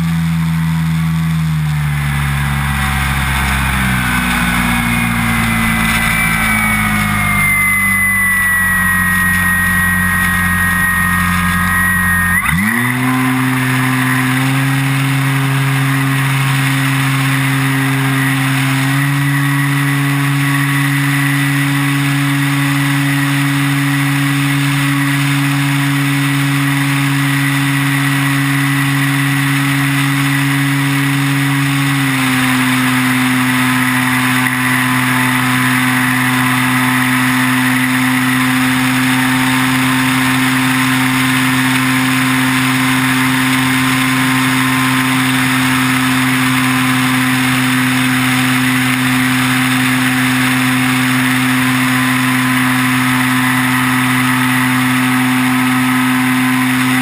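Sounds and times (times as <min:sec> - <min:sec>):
electric motor and propeller hum: 0:00.0 - 0:57.0.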